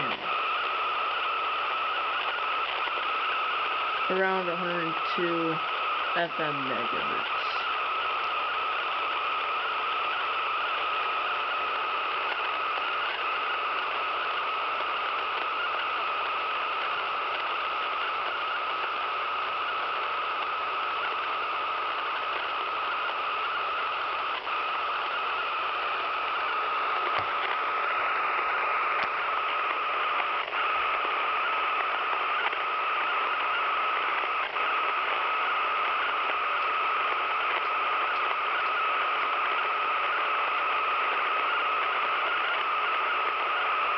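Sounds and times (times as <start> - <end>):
radio static hiss: 0.0 - 43.9.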